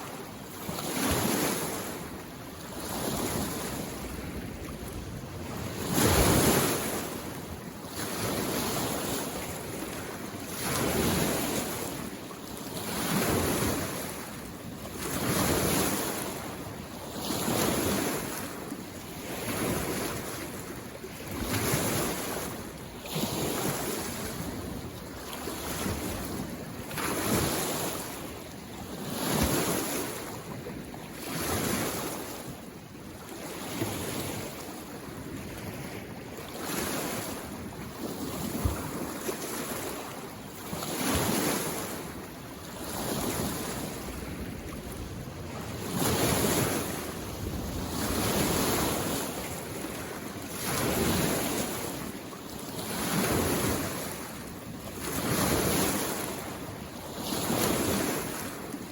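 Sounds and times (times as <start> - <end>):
small waves washing on shore: 0.0 - 58.9.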